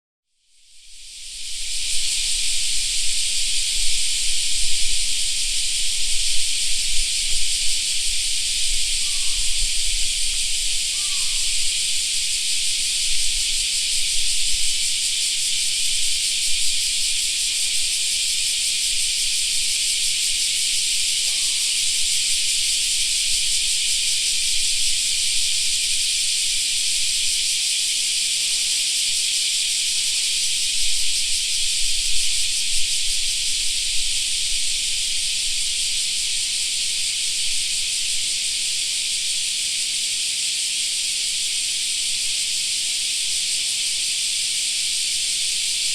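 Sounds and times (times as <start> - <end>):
cicadas buzzing: 0.4 - 45.9.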